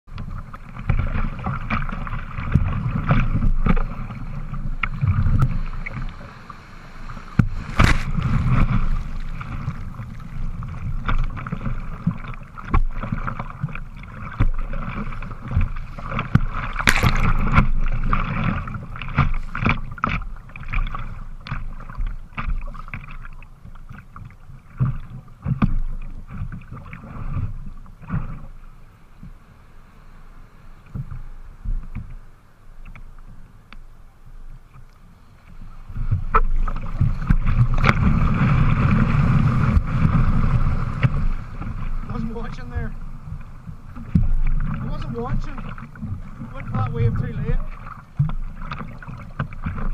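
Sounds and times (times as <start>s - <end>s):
paddle strokes splashing: 0.1s - 49.9s
water rushing and splashing: 0.1s - 49.9s.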